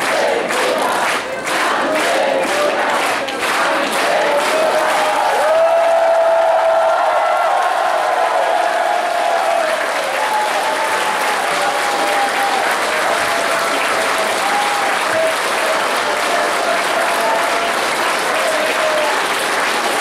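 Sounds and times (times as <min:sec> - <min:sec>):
large crowd applauding: 0:00.0 - 0:20.0.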